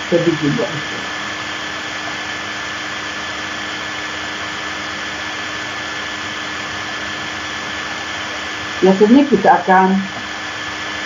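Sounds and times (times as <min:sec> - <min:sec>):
faint hum tones: 0:00.0 - 0:11.0.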